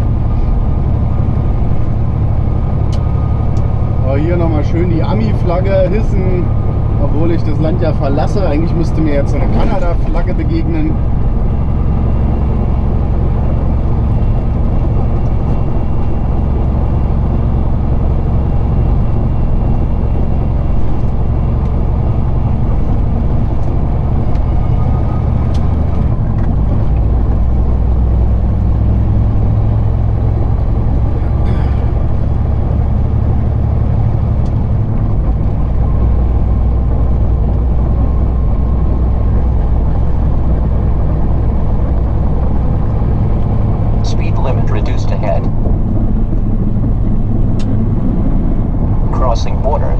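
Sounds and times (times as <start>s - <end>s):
road noise: 0.0s - 49.9s
truck diesel engine drone: 0.0s - 49.9s.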